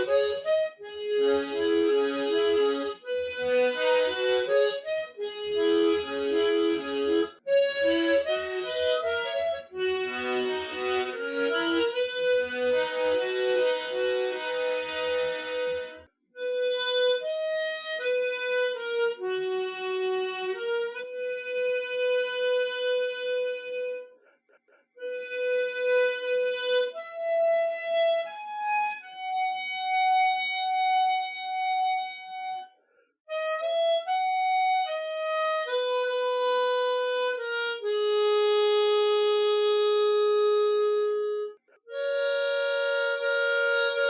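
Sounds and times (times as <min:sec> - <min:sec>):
harmonica melody: 0:00.0 - 0:24.2, 0:25.0 - 0:44.0.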